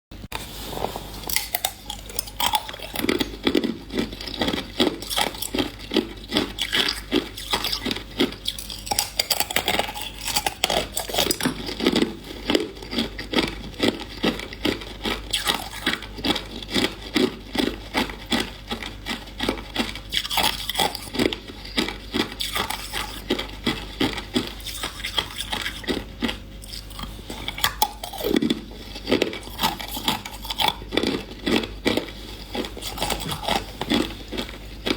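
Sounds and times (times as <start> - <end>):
ice crunching between teeth: 0.4 - 34.9.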